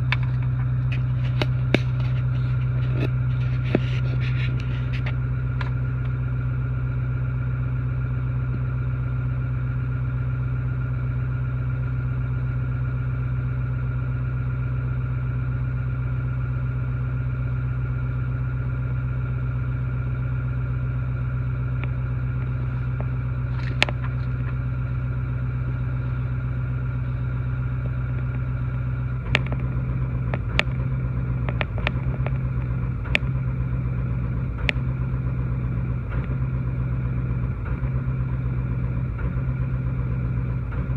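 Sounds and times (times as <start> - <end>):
diesel engine idling unevenly: 0.0 - 40.9.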